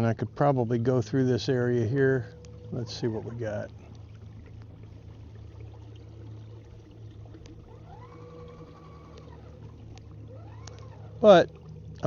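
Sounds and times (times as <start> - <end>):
electric motor humming: 0.0 - 12.0
water noise: 0.0 - 12.0.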